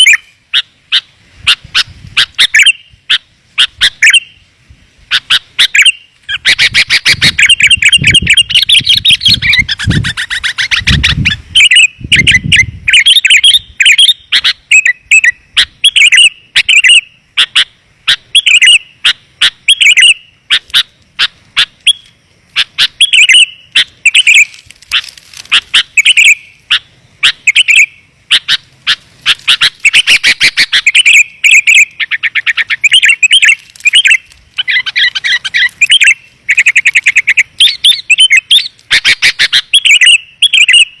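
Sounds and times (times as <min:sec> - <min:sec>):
bulbul singing: 0:00.0 - 0:04.5, 0:05.1 - 0:41.0.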